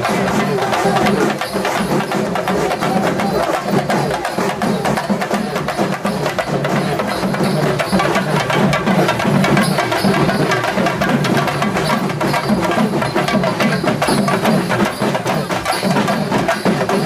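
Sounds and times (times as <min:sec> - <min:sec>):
fast dense drumming: 0:00.0 - 0:17.0
music: 0:00.0 - 0:17.0.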